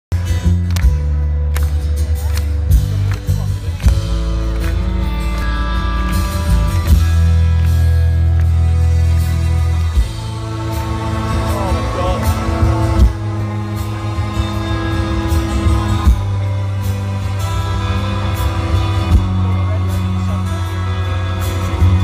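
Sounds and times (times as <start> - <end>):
heavy bass: 0.1 - 22.0
live rock band playing: 0.1 - 22.0
sustained guitar chords: 0.1 - 22.0.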